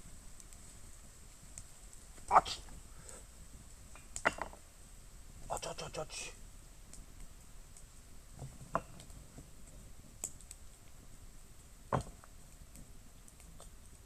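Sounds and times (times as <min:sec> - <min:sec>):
firewood crackling in a stove: 0:00.0 - 0:14.0.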